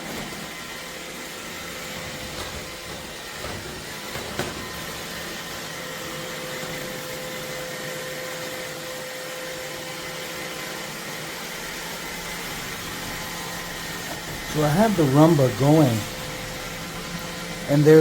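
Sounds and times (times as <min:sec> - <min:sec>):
robot vacuum humming: 0:00.0 - 0:18.0.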